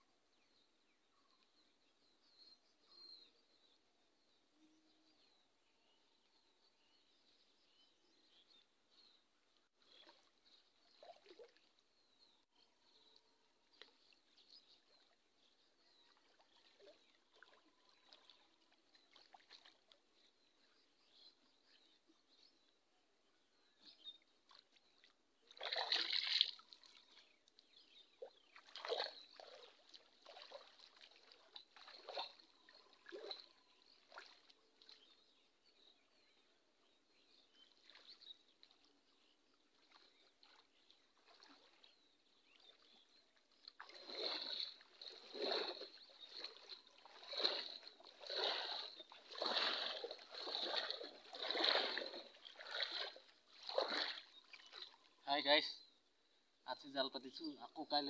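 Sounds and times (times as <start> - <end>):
person wading through water: 7.1 - 22.8, 23.4 - 55.2.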